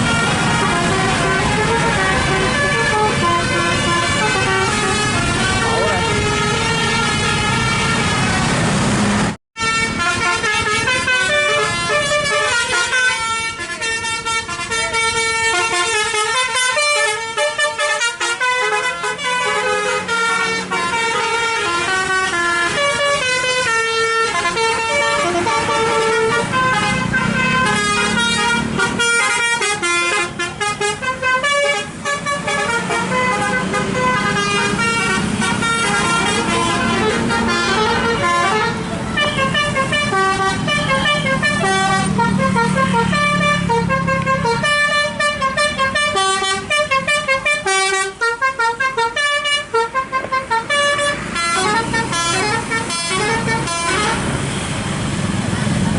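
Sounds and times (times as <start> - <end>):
musical bus horn melody: 0.0 - 55.2.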